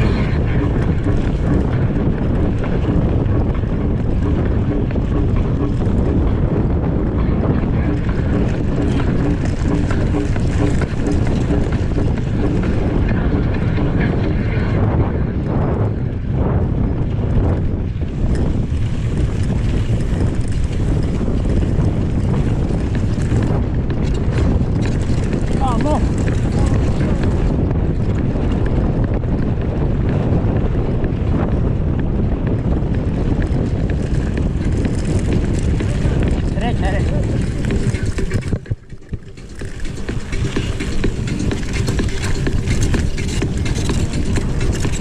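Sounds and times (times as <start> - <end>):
sharp clicks and rattles: 0.0 - 6.6, 7.3 - 14.4, 18.2 - 29.5, 32.9 - 45.0
bike rumbling over rough ground: 0.0 - 45.0
wind buffeting microphone: 0.0 - 45.0.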